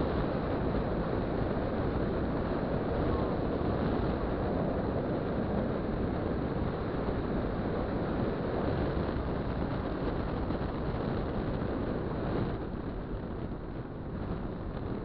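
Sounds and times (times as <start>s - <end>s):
scooter road noise: 0.0s - 15.0s
wind buffeting microphone: 0.0s - 15.0s.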